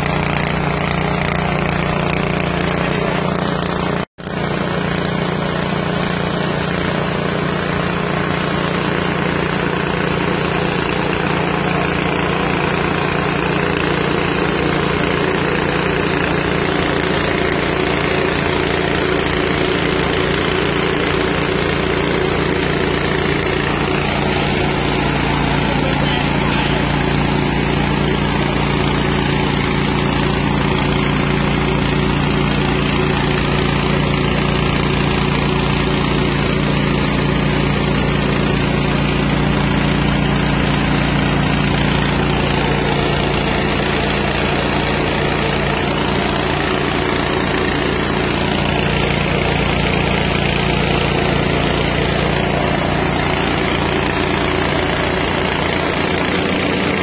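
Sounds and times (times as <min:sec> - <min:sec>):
rice milling machine running: 0:00.0 - 0:57.0.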